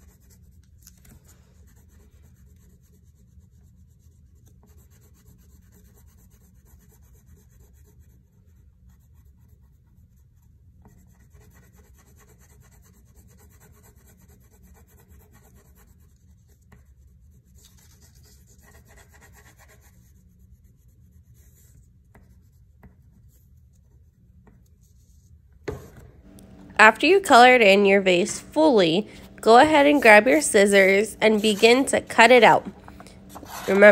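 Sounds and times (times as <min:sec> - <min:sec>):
crayon scribbling on paper: 0:01.6 - 0:24.1, 0:28.8 - 0:33.9.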